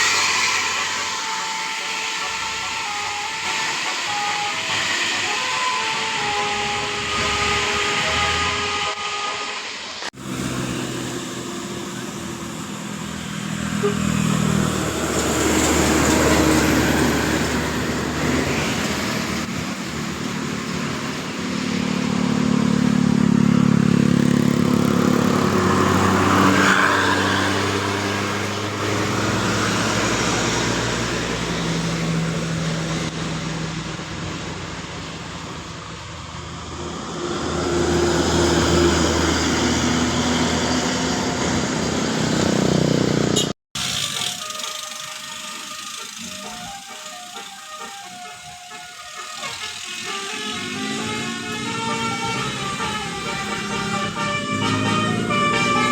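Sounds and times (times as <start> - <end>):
buses driving past: 0.0 - 55.9.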